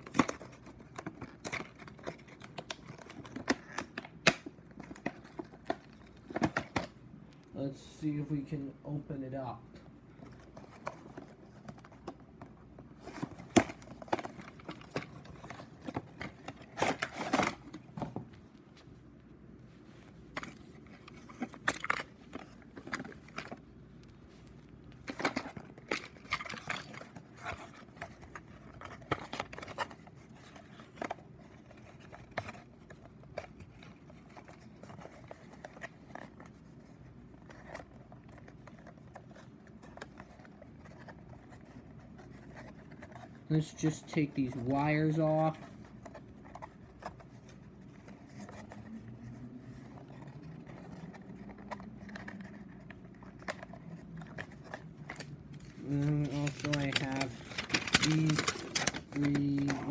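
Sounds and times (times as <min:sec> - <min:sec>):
toy box rustling and crinkling: 0:00.0 - 0:59.9.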